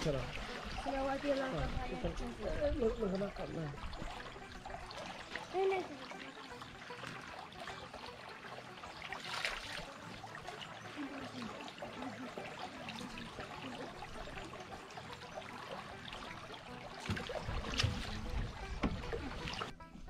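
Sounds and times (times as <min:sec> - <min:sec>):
spring water trickling: 0:00.0 - 0:19.8.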